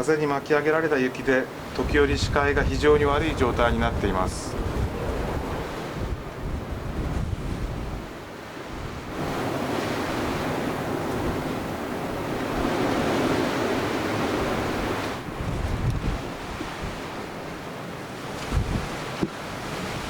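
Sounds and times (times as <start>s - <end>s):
blizzard wind buffeting microphone: 1.2s - 20.0s.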